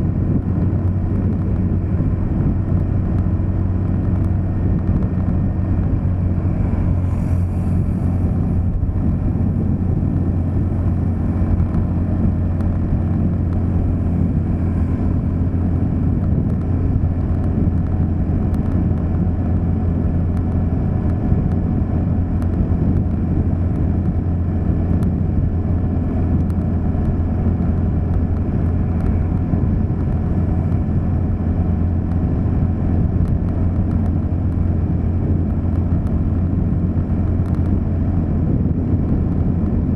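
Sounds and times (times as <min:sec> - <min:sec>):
low road rumble: 0:00.0 - 0:39.9
vehicle engine hum: 0:00.0 - 0:39.9.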